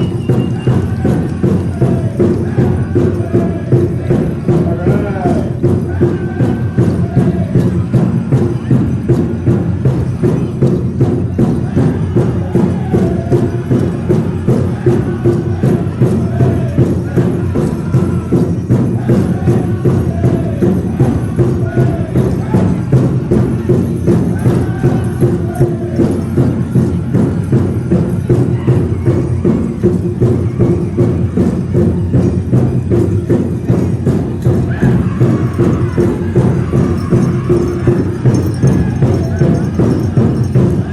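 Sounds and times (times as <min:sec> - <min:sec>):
large drum steady beat: 0:00.0 - 0:40.9
singers chanting: 0:00.0 - 0:40.9.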